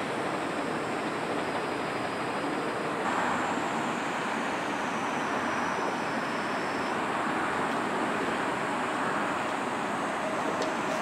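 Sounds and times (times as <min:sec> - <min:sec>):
distant road traffic: 0:00.0 - 0:11.0
faint high steady tones: 0:00.0 - 0:11.0.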